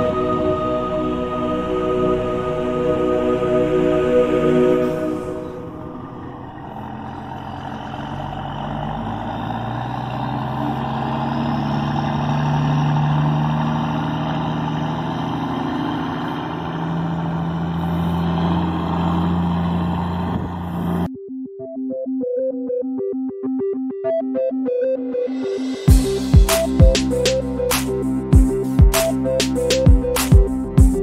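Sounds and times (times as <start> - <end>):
synthesizer music: 0.0 - 9.7, 13.8 - 31.0
heavy diesel engine revving: 0.0 - 21.1, 25.9 - 30.7.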